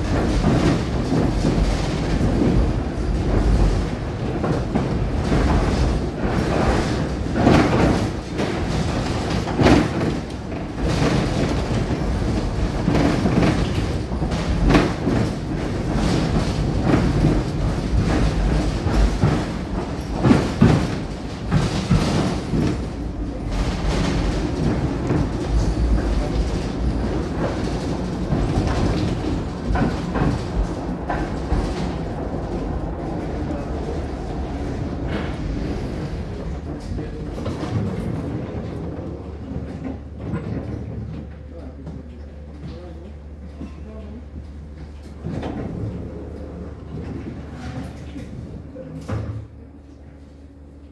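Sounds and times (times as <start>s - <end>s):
wheels and car body clatter: 0.0s - 41.7s, 43.5s - 49.6s
tram wheel running noise: 0.0s - 50.9s.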